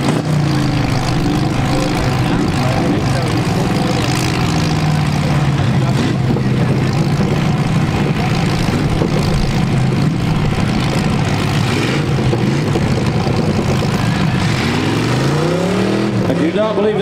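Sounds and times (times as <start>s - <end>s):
car engines droning: 0.0s - 17.0s.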